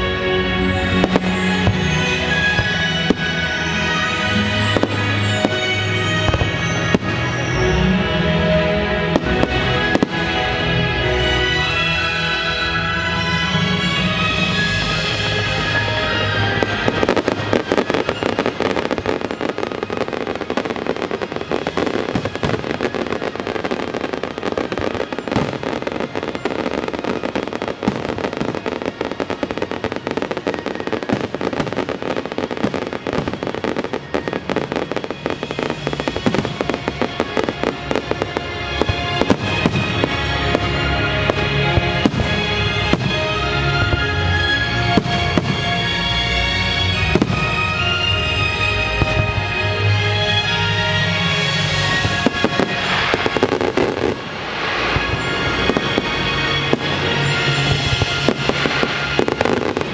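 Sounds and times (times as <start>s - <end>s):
fireworks bangs and crackles: 0.0s - 59.9s
orchestral show music: 0.0s - 59.9s.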